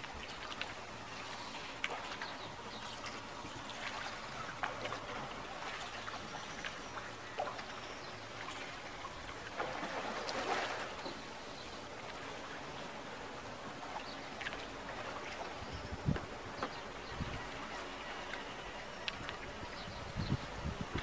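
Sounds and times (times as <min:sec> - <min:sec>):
water lapping against a boat hull: 0:00.0 - 0:21.0.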